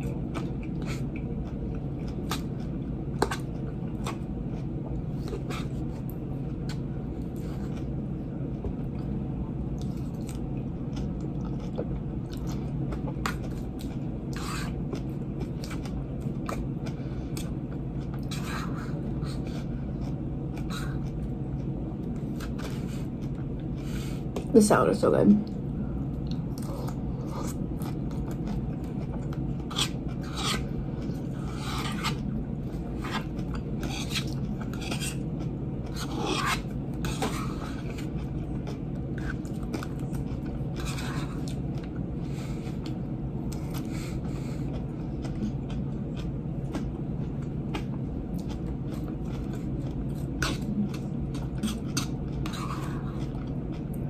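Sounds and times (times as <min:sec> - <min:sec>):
chewing: 0:00.0 - 0:09.1, 0:09.8 - 0:24.5, 0:25.4 - 0:54.0
steady low hum: 0:00.0 - 0:54.0.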